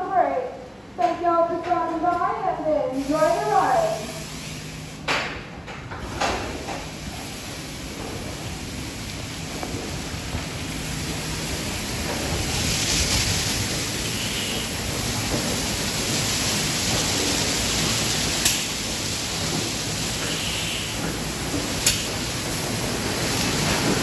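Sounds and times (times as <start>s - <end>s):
car wash water spraying: 3.0s - 5.1s, 6.0s - 24.0s.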